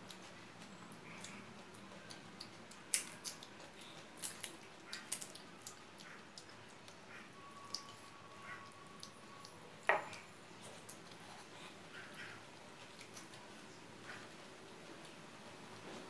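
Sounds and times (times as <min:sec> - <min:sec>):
mouth clicks and smacks chewing: 0:00.0 - 0:14.3.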